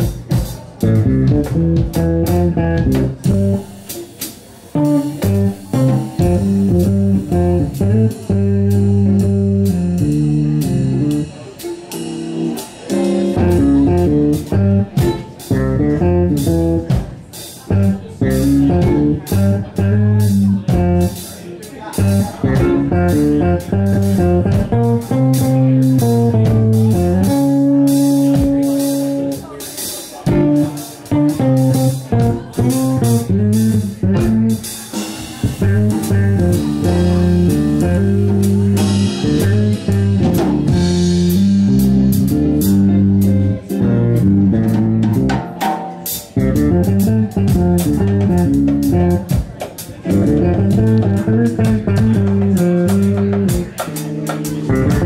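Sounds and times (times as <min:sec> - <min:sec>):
bass lines: 0:00.0 - 0:04.0, 0:04.7 - 0:21.3, 0:21.9 - 0:29.6, 0:30.3 - 0:45.5, 0:46.2 - 0:55.0
drum kit with cymbals: 0:00.0 - 0:55.0
electric guitar: 0:00.0 - 0:55.0.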